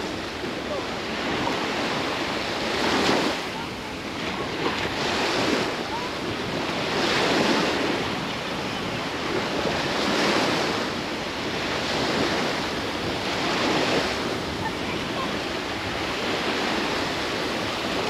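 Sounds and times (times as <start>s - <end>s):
waves washing onto beach: 0.0s - 18.0s
wind: 0.0s - 18.0s.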